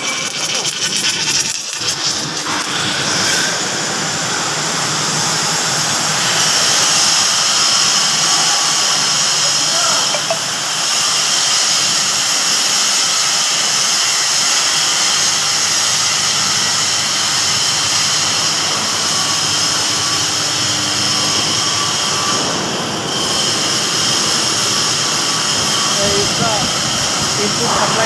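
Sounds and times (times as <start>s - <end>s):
welding machine whirring hiss: 0.0s - 28.0s.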